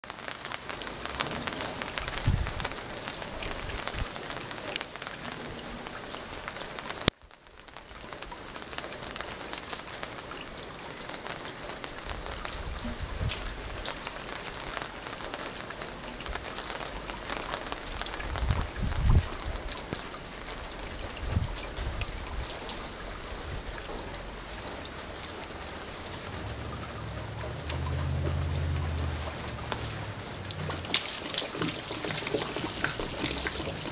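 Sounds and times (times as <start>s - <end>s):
steady rain on paving: 0.0s - 33.9s
water splashing from downpipe: 0.0s - 33.9s.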